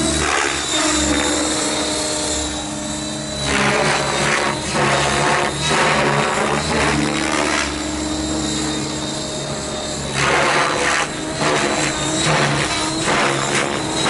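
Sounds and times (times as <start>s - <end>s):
model helicopter rotor drone: 0.0s - 14.0s
thin high tone: 0.0s - 14.0s.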